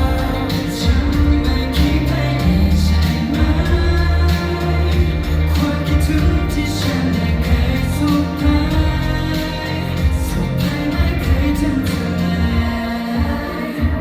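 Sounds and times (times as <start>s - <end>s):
live pop music: 0.0s - 14.0s.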